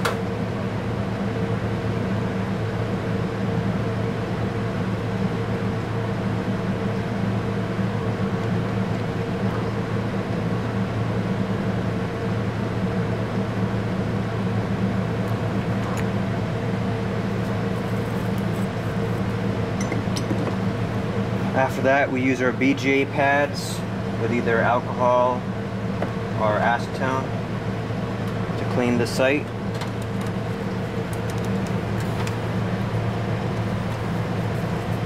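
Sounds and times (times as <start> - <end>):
fan motor humming: 0.0 - 35.0.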